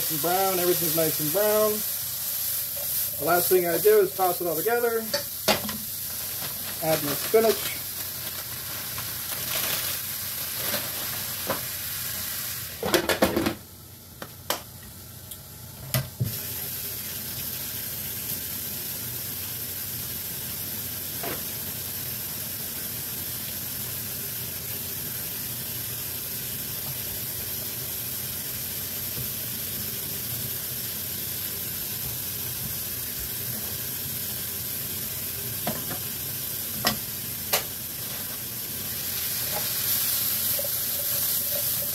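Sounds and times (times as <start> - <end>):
food sizzling in a frying pan: 0.0 - 41.9.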